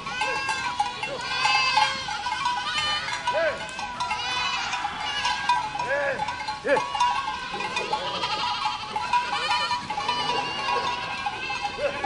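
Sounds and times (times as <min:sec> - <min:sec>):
goats bleating: 0:00.0 - 0:12.0.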